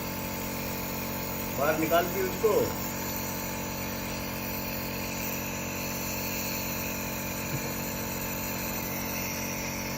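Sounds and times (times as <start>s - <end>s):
nebulizer motor hum and hiss: 0.0s - 9.9s.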